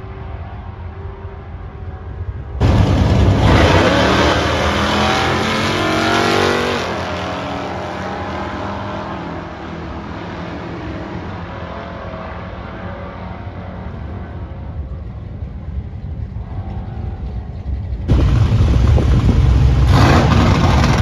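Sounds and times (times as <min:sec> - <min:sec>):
drag racing cars accelerating: 0:00.0 - 0:21.0.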